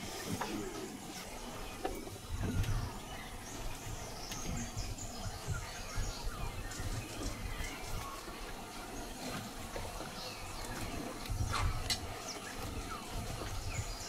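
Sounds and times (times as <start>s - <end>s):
bird calls: 0.0s - 14.0s.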